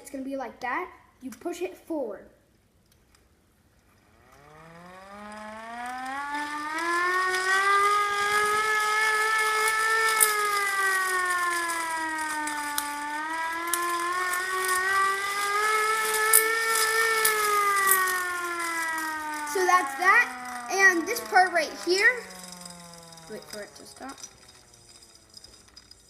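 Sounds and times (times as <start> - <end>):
hand-cranked siren wailing: 3.9 - 26.0
sharp clicks: 3.9 - 26.0.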